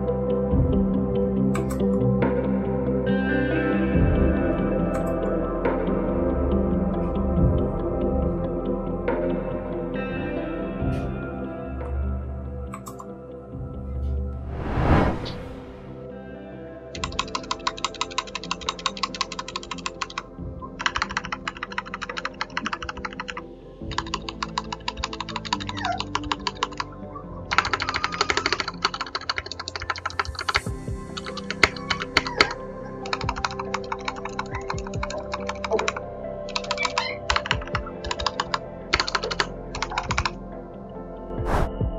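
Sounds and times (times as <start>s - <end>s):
background music: 0.0s - 41.9s.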